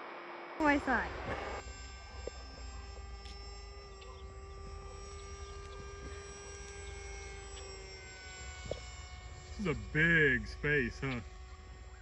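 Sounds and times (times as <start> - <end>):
model airplane motor humming: 0.6 - 12.0.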